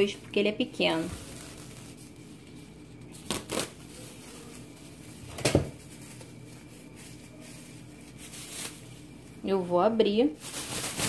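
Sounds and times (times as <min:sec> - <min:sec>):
plastic bag rustling: 0:00.7 - 0:11.0.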